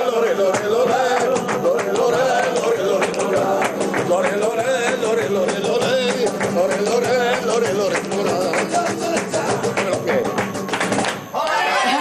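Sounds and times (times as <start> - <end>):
guitar: 0.0 - 12.0
sharp percussive strikes: 0.5 - 11.4.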